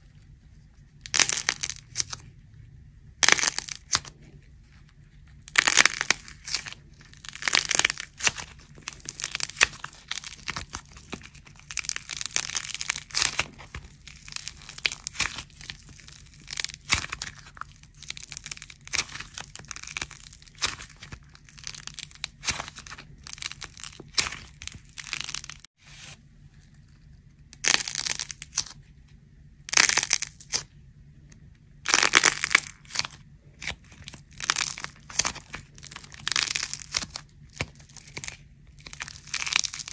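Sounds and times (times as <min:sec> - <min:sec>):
dried clay crackling and crunching: 0:00.0 - 0:39.9.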